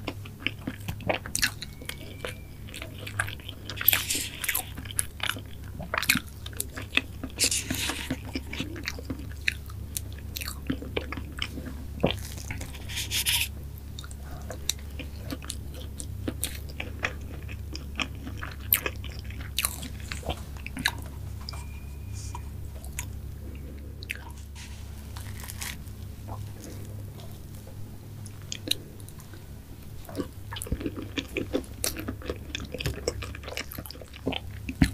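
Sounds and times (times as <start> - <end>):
close chewing with wet mouth smacks: 0.0 - 21.0, 26.3 - 34.9
steady low hum: 0.0 - 34.9.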